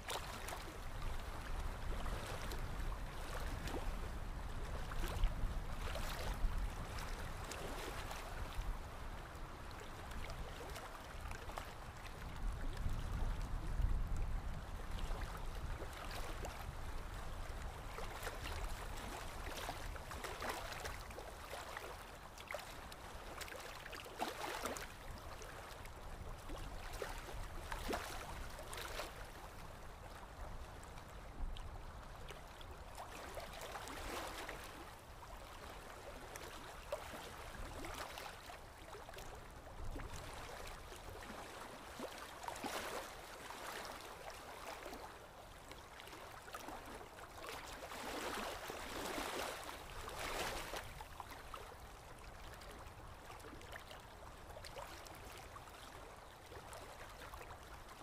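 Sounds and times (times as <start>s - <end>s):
water lapping: 0.0s - 58.0s.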